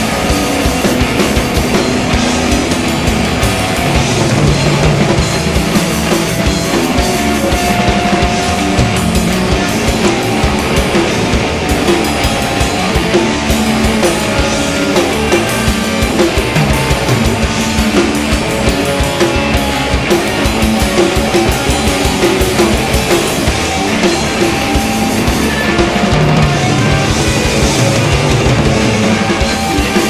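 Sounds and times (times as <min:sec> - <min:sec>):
bass guitar: 0:00.0 - 0:30.0
drum kit playing: 0:00.0 - 0:30.0
electric guitar: 0:00.0 - 0:30.0.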